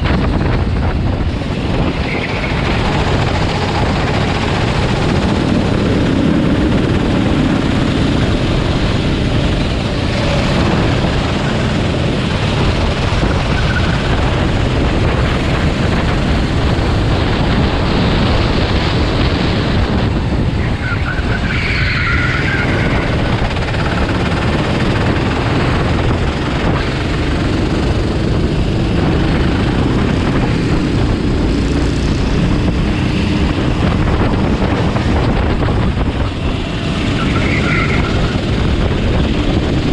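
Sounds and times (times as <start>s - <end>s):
high engine whine: 0.0s - 39.9s
racing engines and tyre noise: 0.0s - 39.9s.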